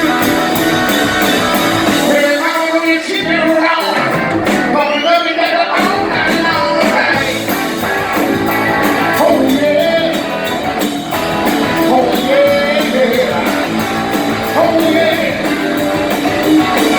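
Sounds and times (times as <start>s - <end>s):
steady drumbeat: 0.0s - 5.0s, 5.8s - 16.9s
electric guitar: 0.0s - 16.9s
live blues-rock band: 0.0s - 16.9s.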